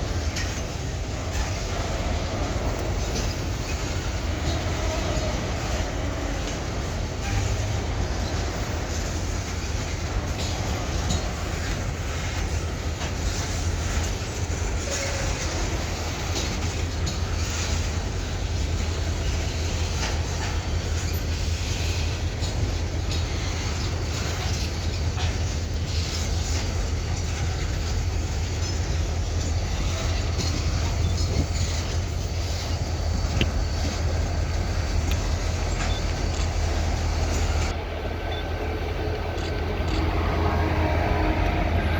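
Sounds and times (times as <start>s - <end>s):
diesel locomotive engine drone: 0.0s - 41.9s
train clicks and rattles: 0.0s - 41.9s.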